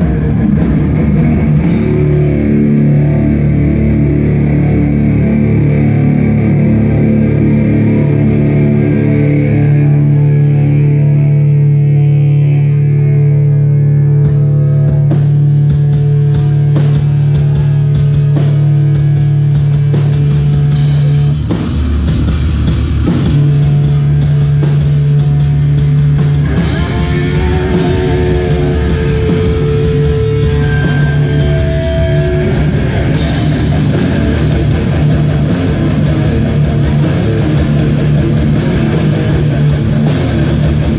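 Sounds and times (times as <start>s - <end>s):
distorted electric guitars and bass: 0.0s - 40.9s
drums and cymbals: 0.0s - 40.9s.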